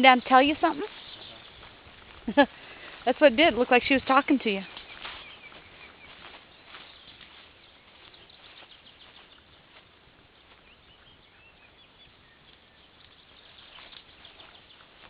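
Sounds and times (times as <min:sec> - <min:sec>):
distant bird chirps: 0:00.0 - 0:15.0.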